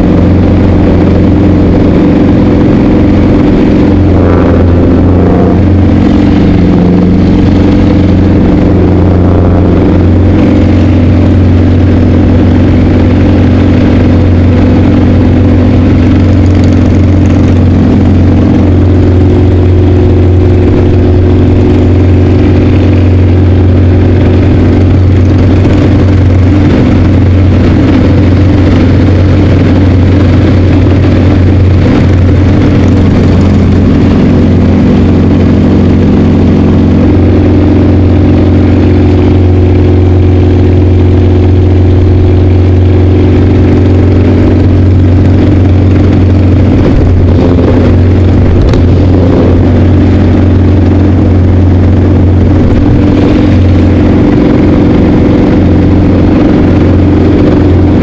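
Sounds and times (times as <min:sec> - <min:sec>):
radial aircraft engine running: 0:00.0 - 0:58.0.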